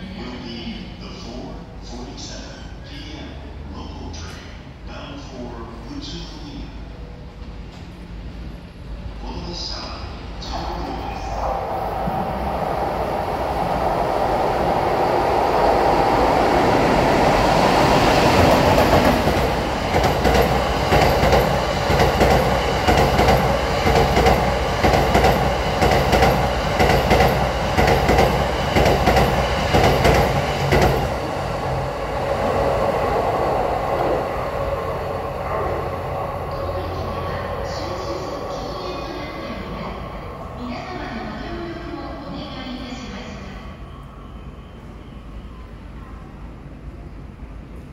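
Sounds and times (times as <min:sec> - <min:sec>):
train passing rumble: 0:00.0 - 0:47.9.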